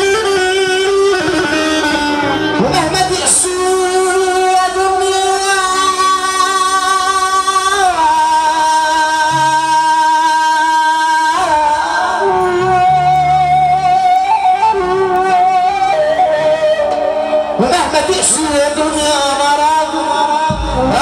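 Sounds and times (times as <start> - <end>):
instrumental accompaniment: 0.0 - 21.0
man singing long notes: 0.0 - 21.0.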